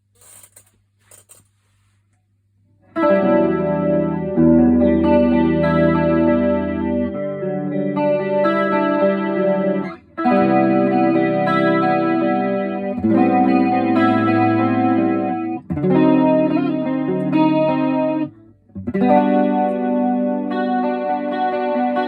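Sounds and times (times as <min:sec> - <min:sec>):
electric guitar chorus chords: 0:03.0 - 0:22.0.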